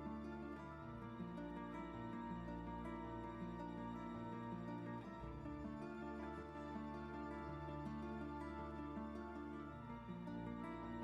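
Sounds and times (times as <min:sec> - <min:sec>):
soft instrumental background music: 0:00.0 - 0:11.0.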